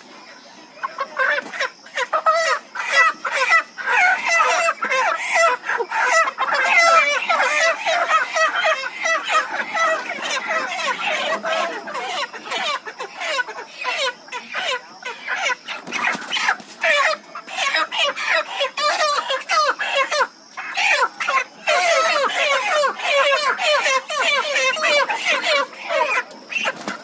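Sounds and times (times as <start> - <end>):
chickens squawking and clucking: 0.0 - 27.0.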